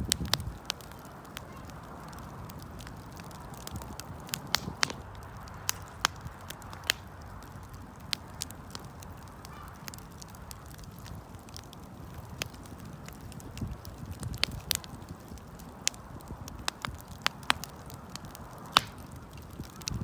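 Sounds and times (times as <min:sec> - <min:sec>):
campfire crackling: 0:00.0 - 0:20.0
low rush of flames: 0:00.0 - 0:20.0.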